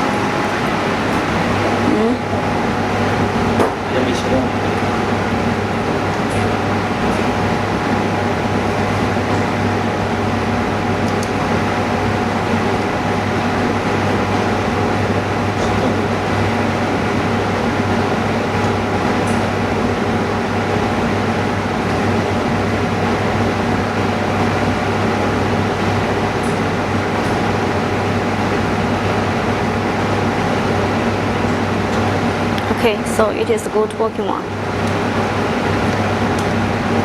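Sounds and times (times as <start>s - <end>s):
machinery humming: 0.0s - 37.0s.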